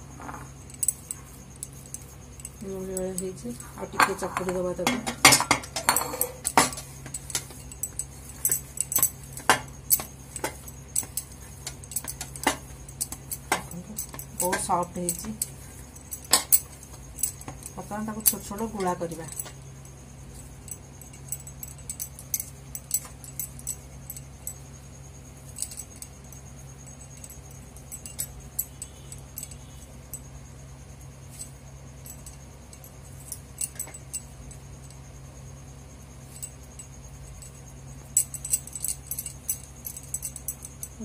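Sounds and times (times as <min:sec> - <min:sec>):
bangles jingling: 0:00.0 - 0:41.0
steady low hum: 0:00.0 - 0:41.0.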